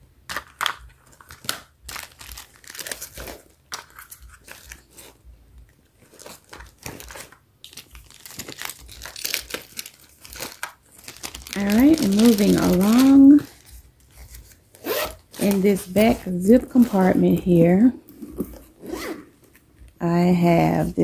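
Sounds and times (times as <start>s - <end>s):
plastic wrappers crinkling: 0.2s - 21.0s.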